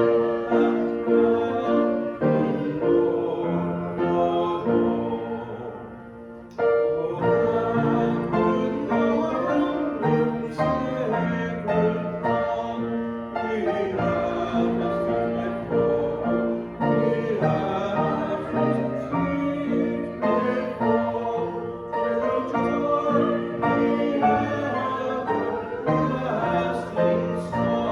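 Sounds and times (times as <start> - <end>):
congregation singing a hymn: 0.0 - 27.9
piano accompaniment: 0.0 - 27.9.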